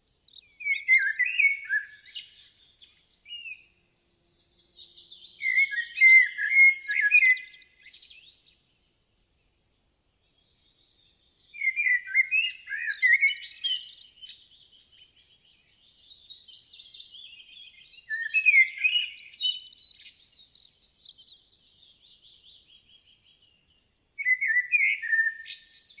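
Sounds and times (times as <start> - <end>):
songbird chirping and warbling: 0.0 - 26.0.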